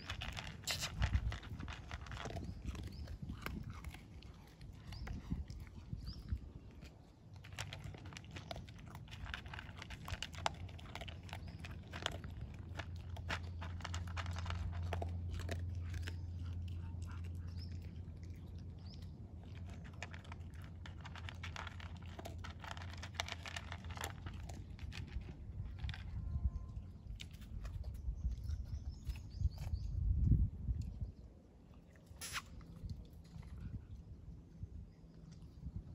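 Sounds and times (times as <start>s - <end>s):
dog crunching dry kibble: 0.0s - 30.1s.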